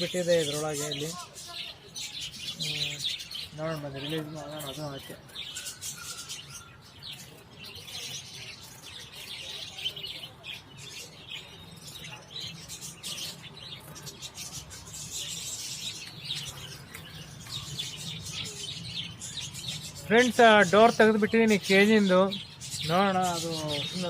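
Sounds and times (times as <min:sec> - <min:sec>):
cage birds chirping: 0:00.0 - 0:24.0.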